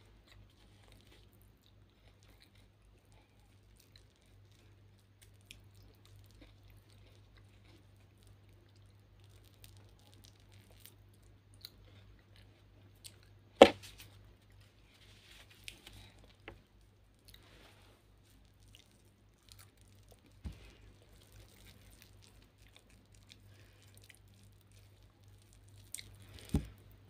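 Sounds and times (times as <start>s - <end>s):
person chewing corn: 0.0s - 13.8s, 15.5s - 26.7s.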